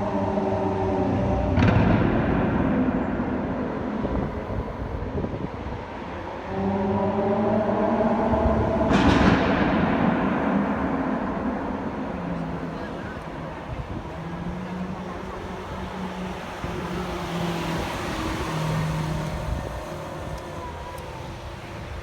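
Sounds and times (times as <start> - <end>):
car engine driving past: 0.0 - 22.0
loud exhaust blast: 0.0 - 22.0.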